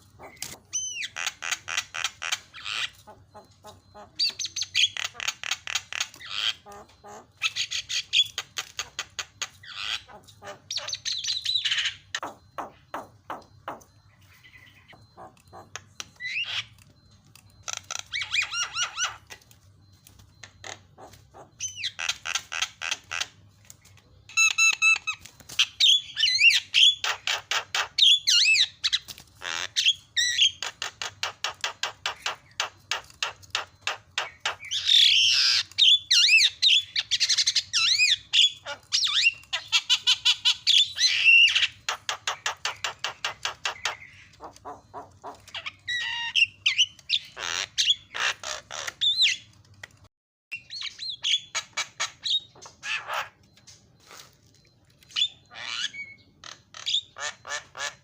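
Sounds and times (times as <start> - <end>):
bird chattering and squawking: 0.0 - 19.4, 20.4 - 49.6, 50.5 - 54.2, 55.1 - 58.0.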